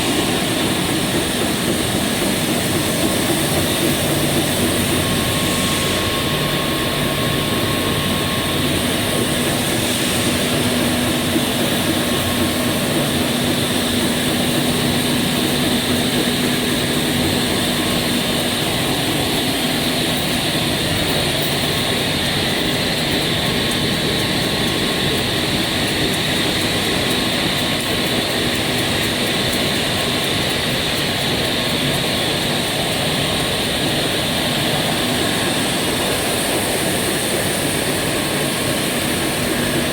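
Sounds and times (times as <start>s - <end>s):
loud machine noise: 0.0s - 39.9s.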